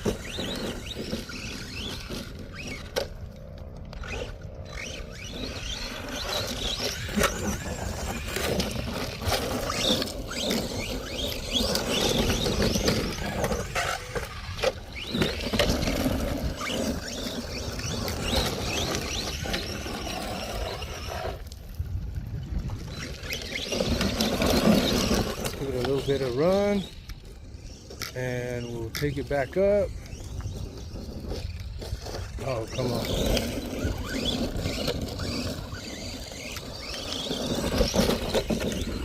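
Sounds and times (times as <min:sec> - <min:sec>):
electric motor whining: 0:00.0 - 0:39.0
tyres scrabbling over dirt: 0:00.0 - 0:39.0.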